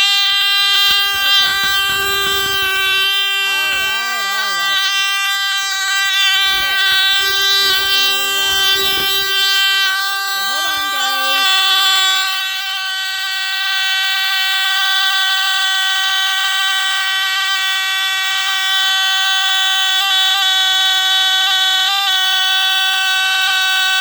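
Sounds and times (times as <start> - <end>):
alarm buzzer buzzing: 0.0 - 24.0.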